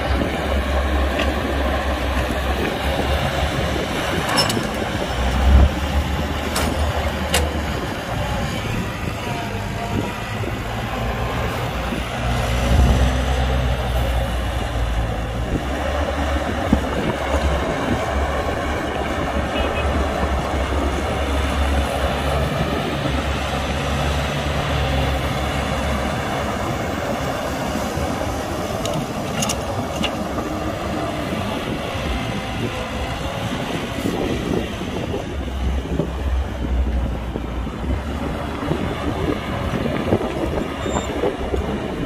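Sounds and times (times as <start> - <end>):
excavator diesel engine under load: 0.0 - 42.0.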